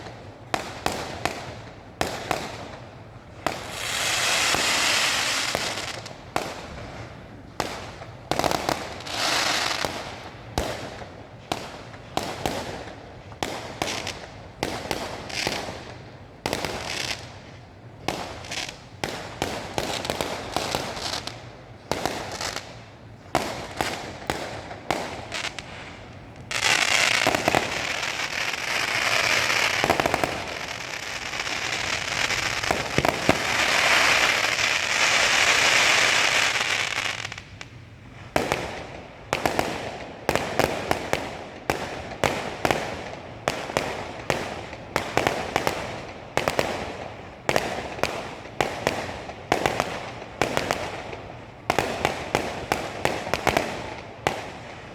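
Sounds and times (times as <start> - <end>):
fireworks bangs: 0.0 - 54.9
fireworks crackling: 0.0 - 54.9
rapid fireworks reports: 0.0 - 54.9.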